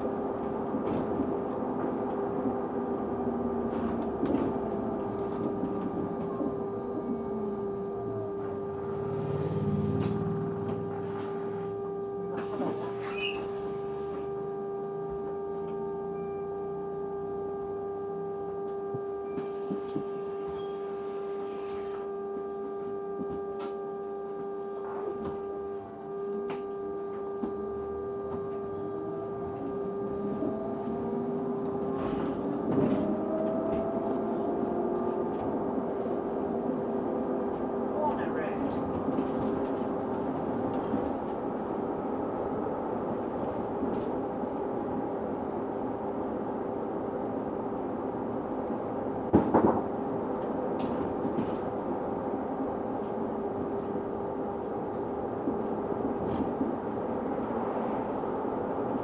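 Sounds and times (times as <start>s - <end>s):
bus drive noise: 0.0s - 17.5s, 24.8s - 59.0s
steady humming tone: 0.0s - 49.3s.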